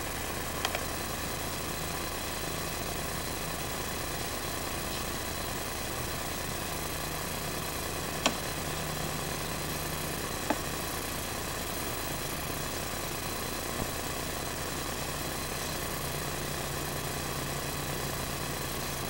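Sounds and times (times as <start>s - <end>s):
low mechanical hum with hiss: 0.0s - 19.0s.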